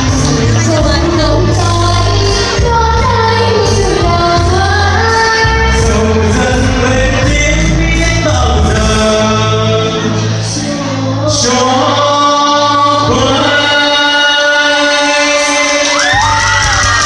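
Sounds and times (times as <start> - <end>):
backing track: 0.0 - 17.0
man and woman singing duet: 0.0 - 17.0.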